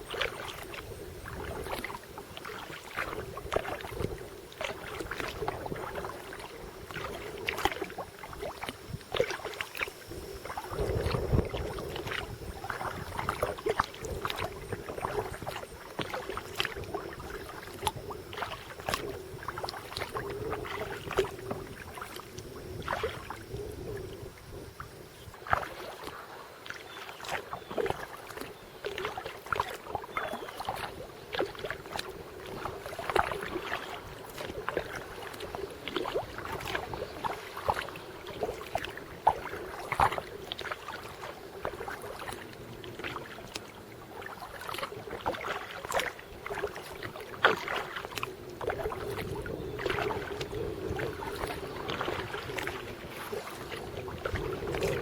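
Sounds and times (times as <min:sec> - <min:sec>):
paddle splashes and drips: 0:00.0 - 0:55.0.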